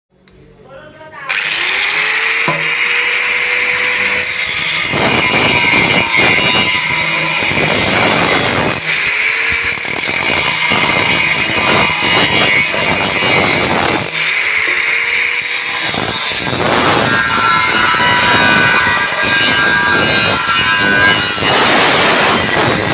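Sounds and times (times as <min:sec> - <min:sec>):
metal being cut with rasping: 0:01.3 - 0:22.9.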